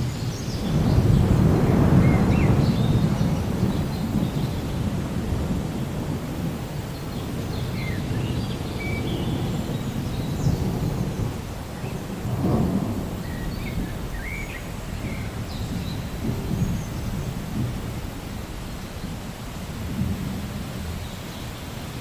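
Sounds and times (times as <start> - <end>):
low thunder rolling: 0.0 - 21.3
steady rain: 0.0 - 22.0.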